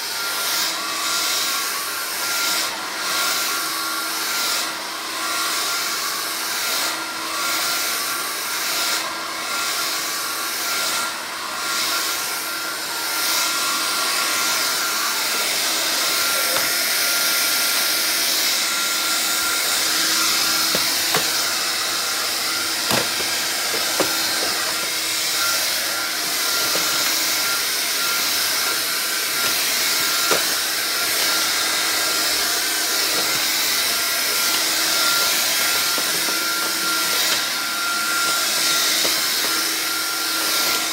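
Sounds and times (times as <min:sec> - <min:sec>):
vacuum cleaner whooshing whine: 0:00.0 - 0:40.9.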